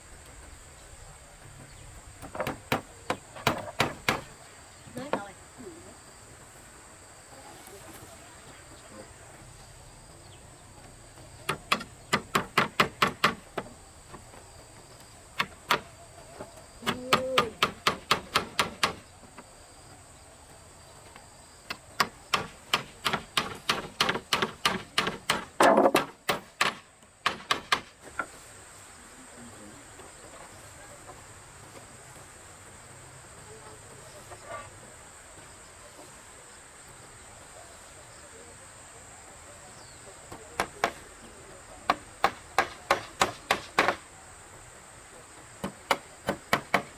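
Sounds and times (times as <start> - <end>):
high buzz of insects: 0.0 - 46.9.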